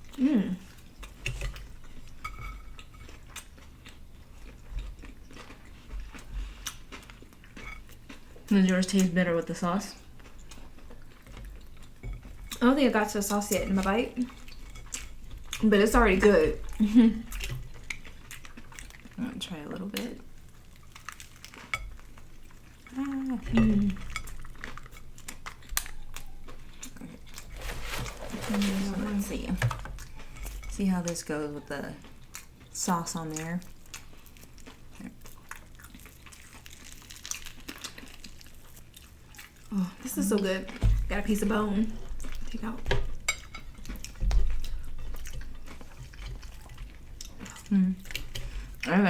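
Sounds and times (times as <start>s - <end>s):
close-up chewing: 0.0s - 12.6s, 13.8s - 49.0s.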